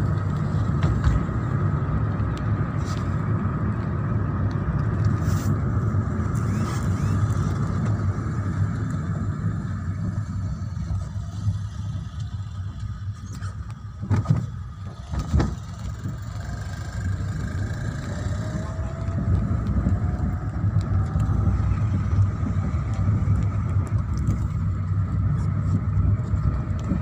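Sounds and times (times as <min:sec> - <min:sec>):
car cabin road and engine rumble: 0:00.0 - 0:27.0.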